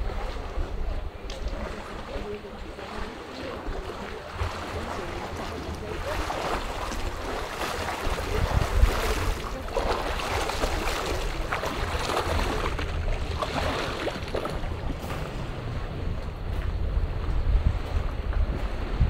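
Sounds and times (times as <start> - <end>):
waves lapping against stone wall: 0.0 - 19.0
wind rumbling on microphone: 0.0 - 19.0.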